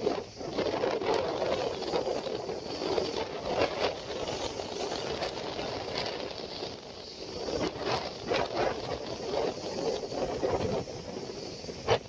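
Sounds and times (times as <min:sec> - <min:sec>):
rough sea surf: 0:00.0 - 0:12.0
wind: 0:00.0 - 0:12.0.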